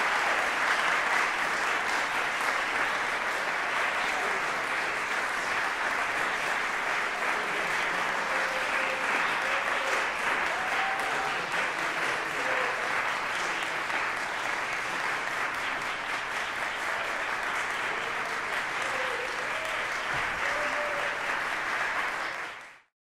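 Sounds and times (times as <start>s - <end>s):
audience applauding: 0.0s - 22.9s.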